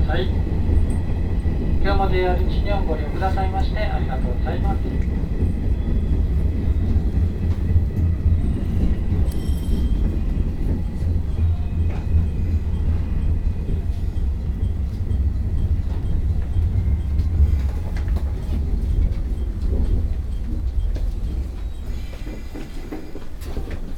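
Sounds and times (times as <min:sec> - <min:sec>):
train rumble inside carriage: 0:00.0 - 0:23.9
train wheel clicks: 0:00.2 - 0:23.9.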